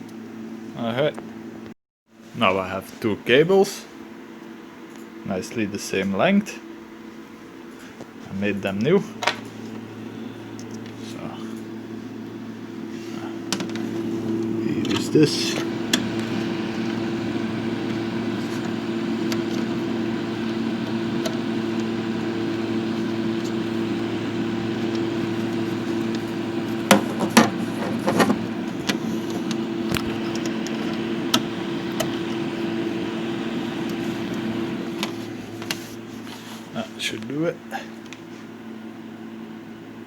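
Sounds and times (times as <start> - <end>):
mechanical hum of bench equipment: 0.0 - 40.0.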